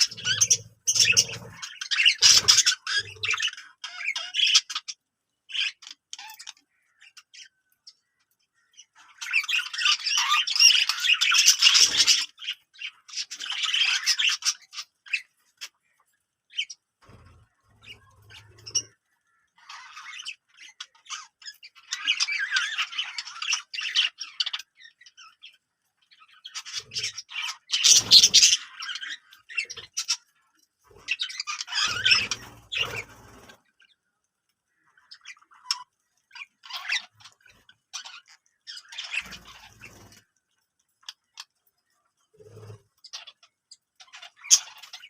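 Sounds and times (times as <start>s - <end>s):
budgerigars chattering and squawking: 0.0s - 40.4s, 41.0s - 45.0s.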